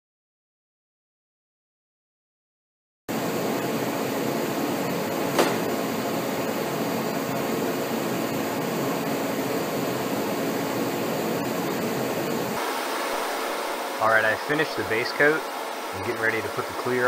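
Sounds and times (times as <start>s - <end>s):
fan rushing air: 3.1s - 17.0s.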